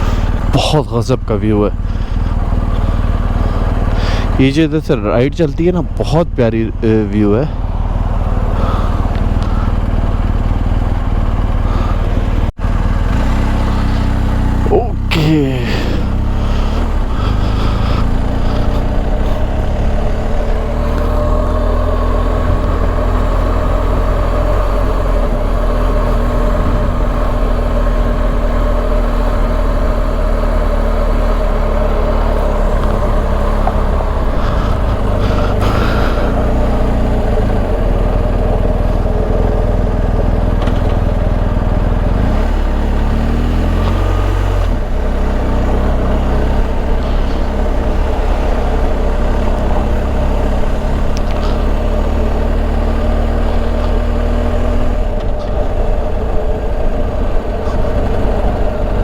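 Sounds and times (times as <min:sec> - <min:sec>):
motorcycle engine rumbling: 0:00.0 - 0:59.0.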